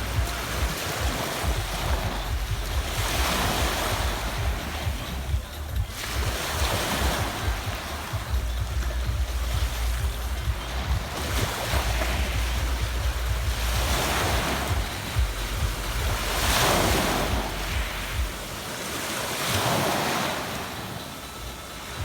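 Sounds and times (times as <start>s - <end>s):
waves on a pebble beach: 0.0s - 22.0s
wind buffeting microphone: 0.0s - 22.0s.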